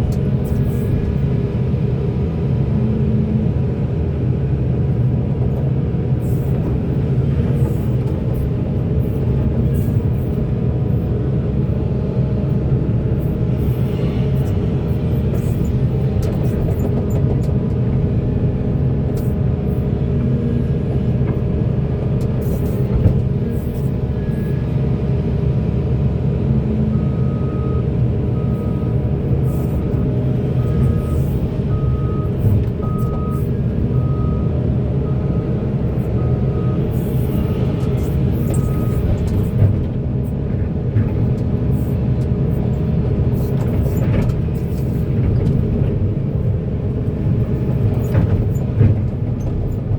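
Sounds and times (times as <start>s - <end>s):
diesel engine rumble: 0.0s - 49.9s.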